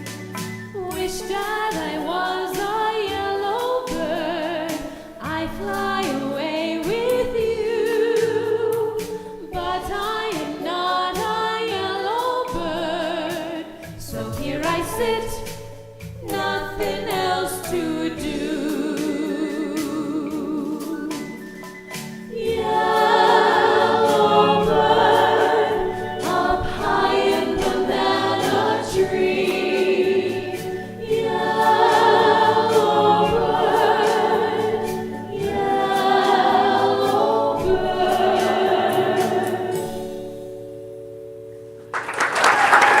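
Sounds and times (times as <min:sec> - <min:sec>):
voices singing wordless held phrases: 0:00.8 - 0:40.2.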